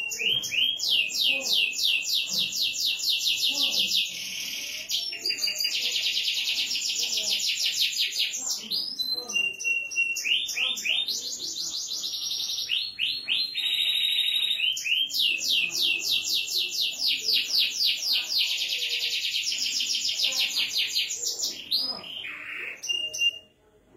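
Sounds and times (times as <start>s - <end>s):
canary singing: 0.0s - 23.7s.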